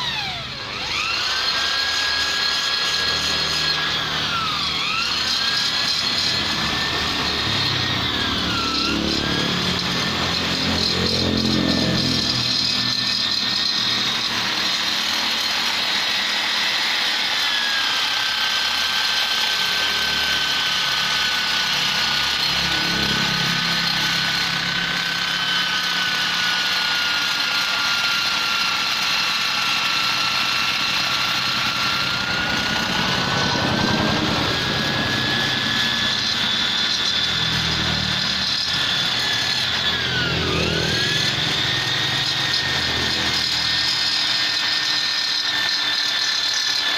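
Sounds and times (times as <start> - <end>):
rotary grinder whining on metal: 0.0 - 46.9.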